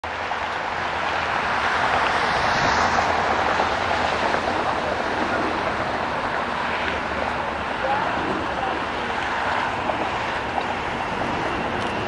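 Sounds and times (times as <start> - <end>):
distant jet engine rushing: 0.0 - 12.0.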